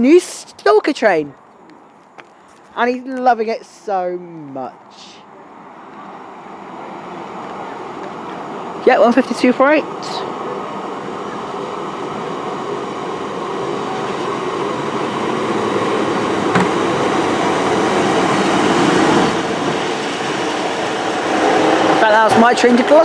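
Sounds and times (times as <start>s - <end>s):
train engine and wheels: 0.0s - 23.0s.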